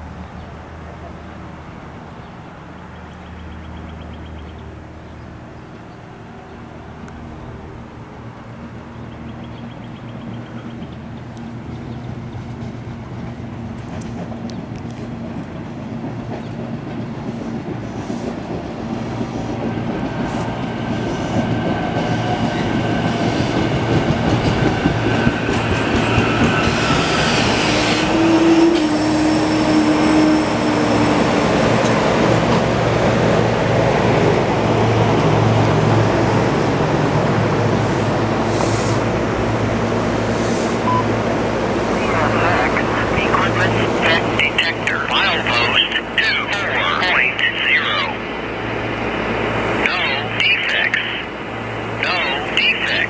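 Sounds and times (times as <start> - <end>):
electric train pulling in: 0.7 - 47.0.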